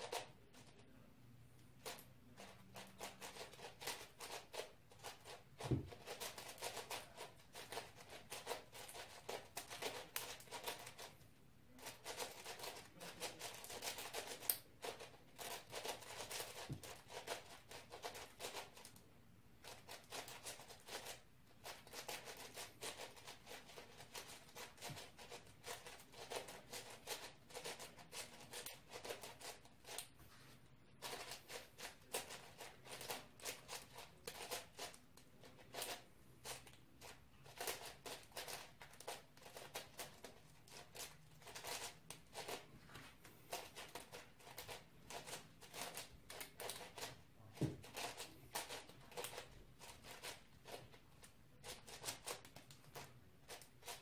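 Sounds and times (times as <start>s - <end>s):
speed cube clicking and rattling: 1.8s - 11.1s, 11.8s - 18.9s, 19.6s - 30.0s, 31.0s - 42.6s, 43.5s - 47.1s, 47.8s - 50.8s, 51.6s - 54.0s.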